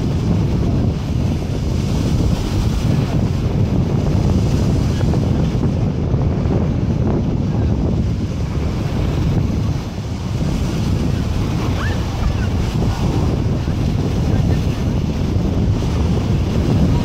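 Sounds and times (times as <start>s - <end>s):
choppy sea water: 0.0s - 17.0s
wind buffeting microphone: 0.0s - 17.0s.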